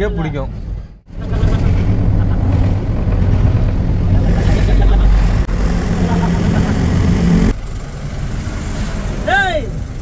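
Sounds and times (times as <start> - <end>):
lorry engine and road rumble: 0.0 - 10.0.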